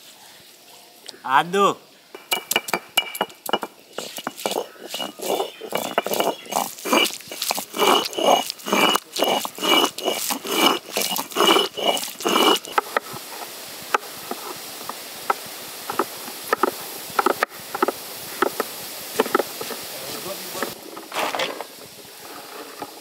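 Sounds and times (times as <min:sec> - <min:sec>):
stone roller grinding on slab: 0:02.2 - 0:23.0.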